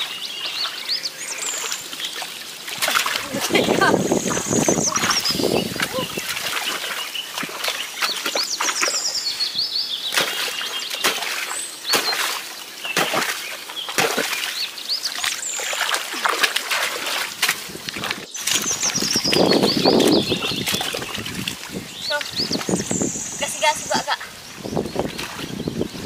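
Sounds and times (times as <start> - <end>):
muddy water splashing: 0.0 - 26.0
small birds chirping: 0.0 - 26.0.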